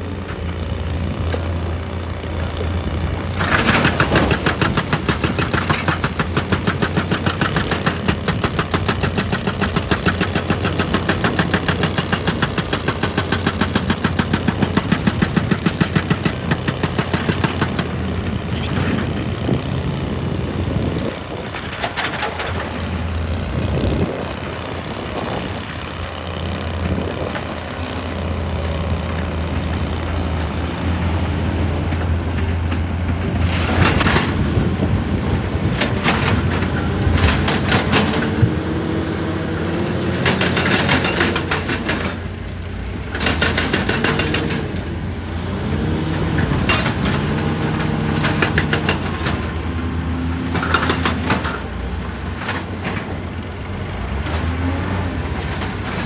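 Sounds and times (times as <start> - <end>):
diesel engine running: 0.0 - 56.0
hydraulic rock breaker hammering: 0.0 - 56.0.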